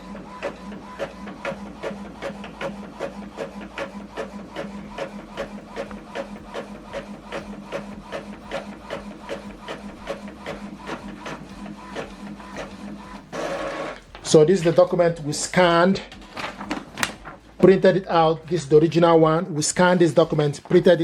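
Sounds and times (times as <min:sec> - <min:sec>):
printer motor hum: 0:00.0 - 0:18.9
printer head ticking: 0:00.0 - 0:21.0.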